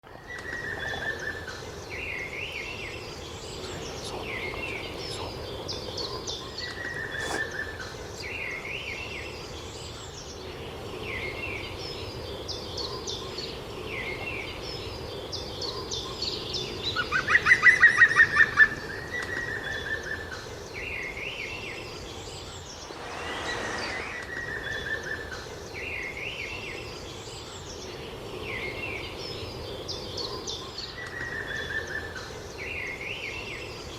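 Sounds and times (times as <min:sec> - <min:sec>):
wild birds singing and calling: 0:00.0 - 0:33.9.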